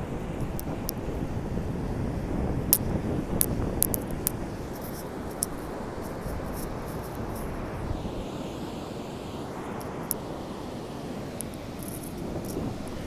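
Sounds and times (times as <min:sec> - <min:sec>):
ocean surf on beach: 0:00.0 - 0:13.0
wind buffeting microphone: 0:00.0 - 0:13.0.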